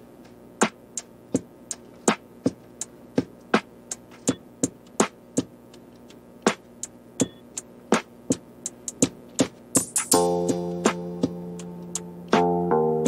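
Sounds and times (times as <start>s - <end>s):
electronic drum beat: 0.4s - 13.0s.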